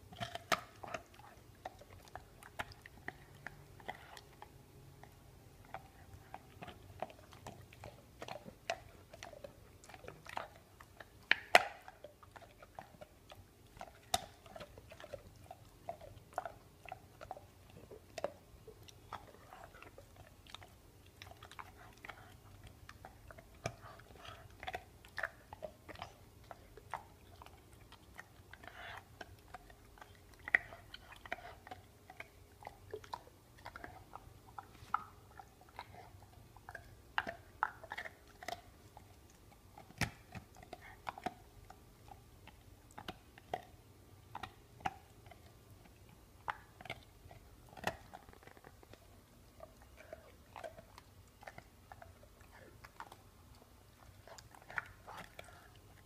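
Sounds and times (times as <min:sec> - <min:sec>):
dog gnawing a bone: 0:00.0 - 0:56.0
teeth cracking and crunching: 0:00.0 - 0:56.0.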